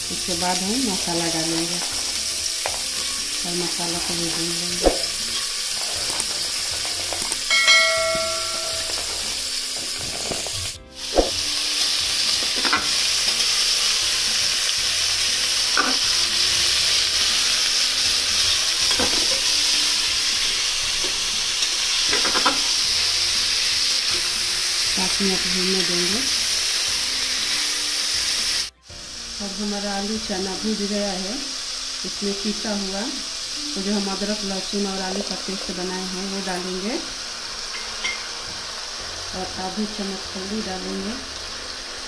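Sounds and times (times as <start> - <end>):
food sizzling in oil: 0.0 - 42.0.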